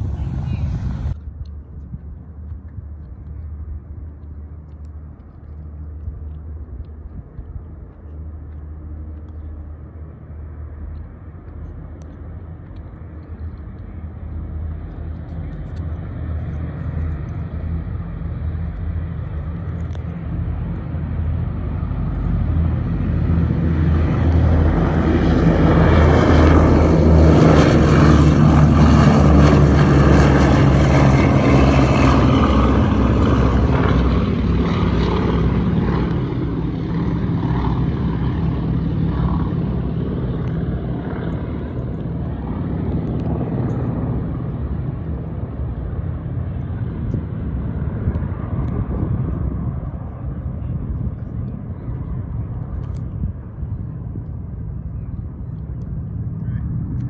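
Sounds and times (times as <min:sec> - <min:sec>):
propeller plane engines roaring: 0:00.0 - 0:57.0.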